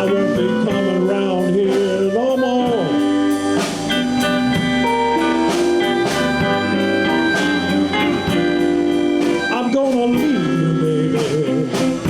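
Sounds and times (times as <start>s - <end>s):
electric guitar fill: 0.0s - 12.0s
live blues band playing: 0.0s - 12.0s.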